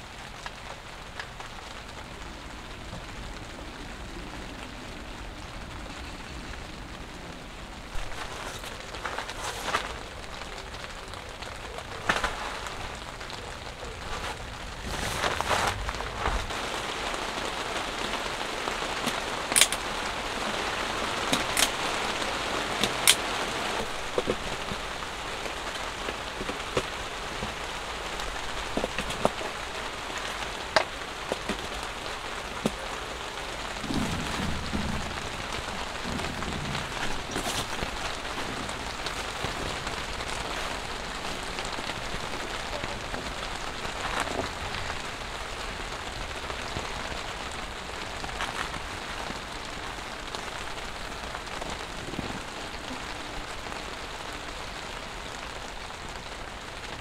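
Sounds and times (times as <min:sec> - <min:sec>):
rain pattering on tent fabric: 0:00.0 - 0:57.0.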